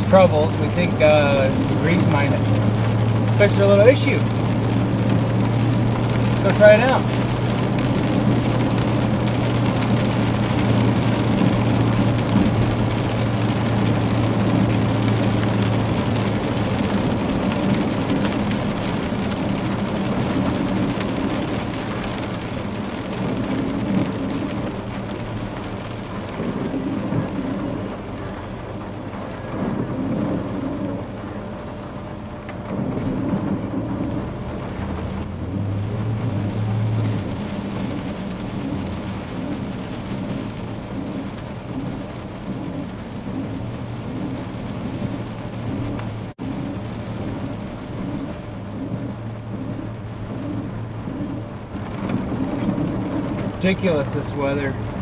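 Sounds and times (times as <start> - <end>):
engine humming: 0.0 - 55.0
heavy rain on vehicle: 0.0 - 55.0
tyres hissing on wet road: 0.0 - 55.0.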